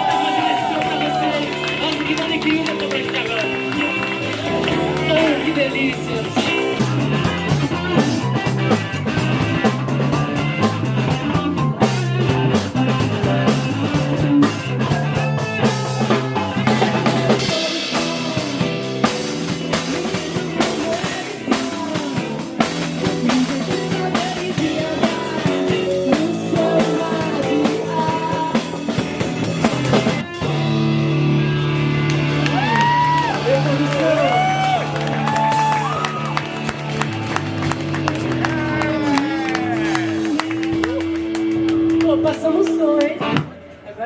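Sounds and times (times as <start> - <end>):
live rock band playing: 0.0 - 43.8.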